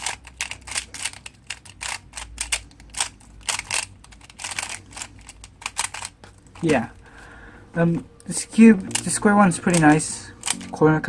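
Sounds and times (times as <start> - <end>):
puzzle cube plastic clicks: 0.0 - 7.1, 8.8 - 10.8.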